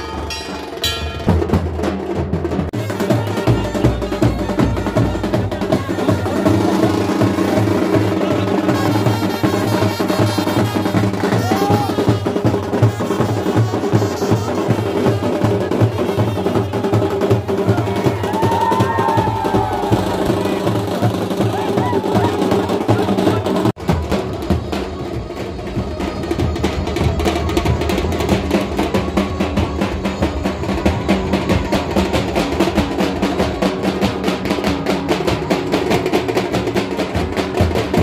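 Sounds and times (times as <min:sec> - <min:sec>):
band playing loudly: 0:00.0 - 0:38.0.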